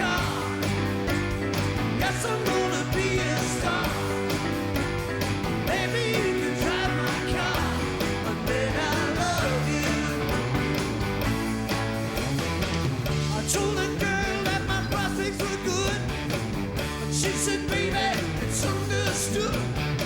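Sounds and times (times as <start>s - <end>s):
live rock band playing: 0.0s - 20.0s
steady drum beat: 0.0s - 20.0s.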